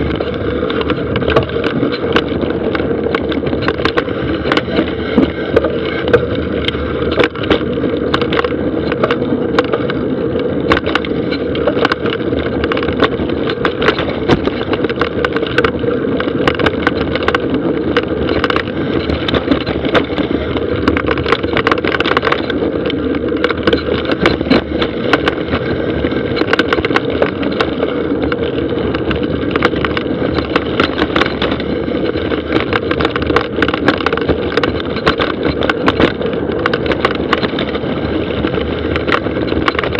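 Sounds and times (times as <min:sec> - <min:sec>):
bike rattling over rough ground: 0:00.0 - 0:39.9
bike tyres rumbling on dirt: 0:00.0 - 0:39.9.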